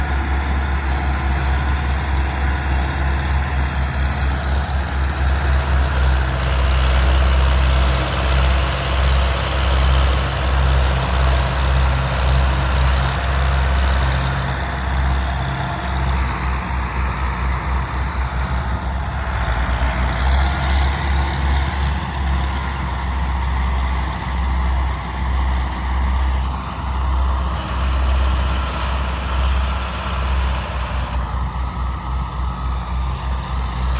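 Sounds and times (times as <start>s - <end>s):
tractor diesel engine rumbling: 0.0s - 33.9s.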